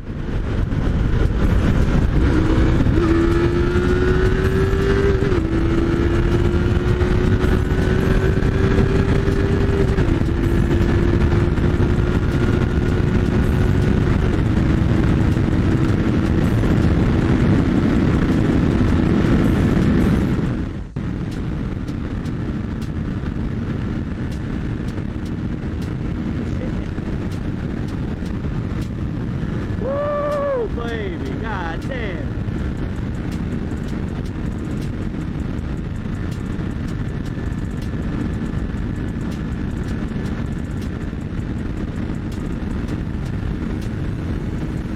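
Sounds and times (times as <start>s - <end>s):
motorcycle engine accelerating: 0.0s - 44.9s
riding noise rush: 0.0s - 44.9s.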